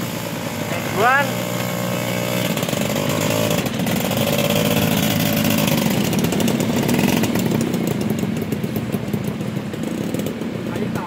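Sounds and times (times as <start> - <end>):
other motorcycle engines: 0.0 - 11.0
two-stroke motorcycle engine running: 0.0 - 11.0.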